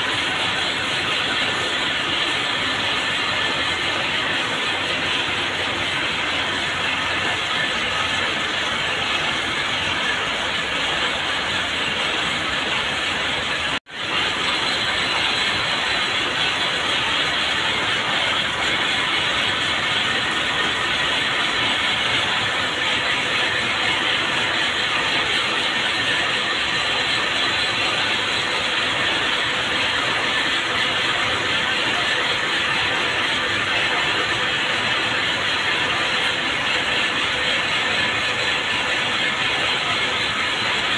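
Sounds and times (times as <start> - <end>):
cord-making machines rattling: 0.0 - 40.9.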